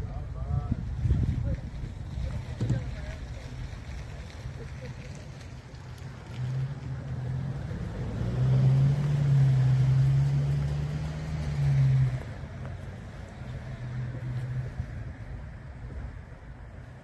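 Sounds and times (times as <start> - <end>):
motor vehicle passing: 1.0 - 17.0.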